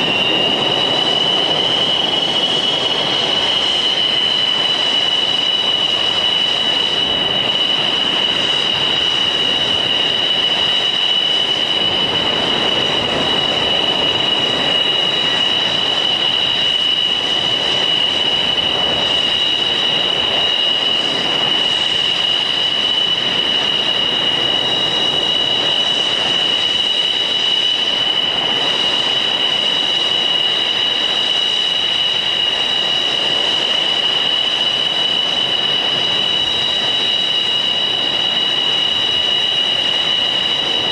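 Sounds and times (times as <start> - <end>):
jet engine rushing roar: 0.0 - 40.9
jet engines idling whine: 0.0 - 40.9.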